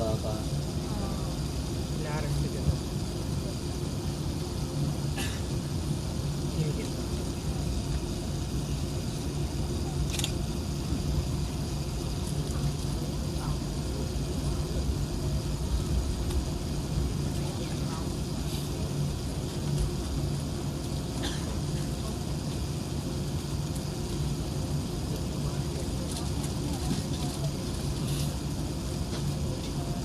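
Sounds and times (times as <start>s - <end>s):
aircraft cabin hum: 0.0s - 30.0s
faint passenger chatter: 0.0s - 30.0s.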